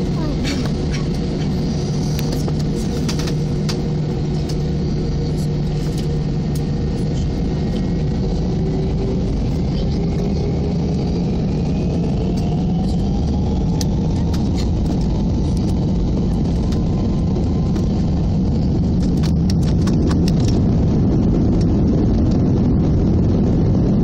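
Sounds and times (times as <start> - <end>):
jet cabin rumble: 0.0 - 24.0
jet engine whine rising: 0.0 - 24.0.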